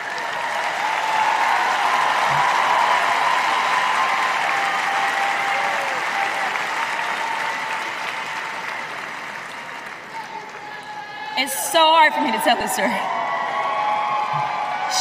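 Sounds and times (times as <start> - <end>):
large audience applauding: 0.0 - 15.0.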